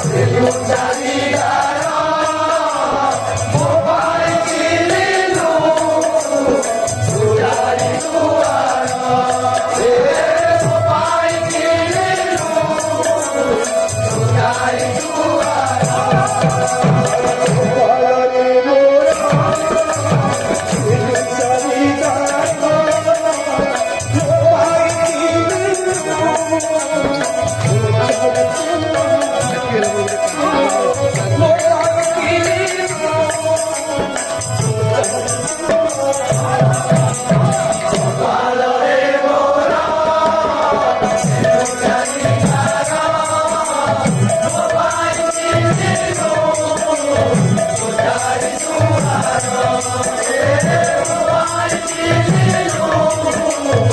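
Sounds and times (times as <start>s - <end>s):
devotional singing: 0.0s - 53.9s
hand percussion: 0.0s - 53.9s.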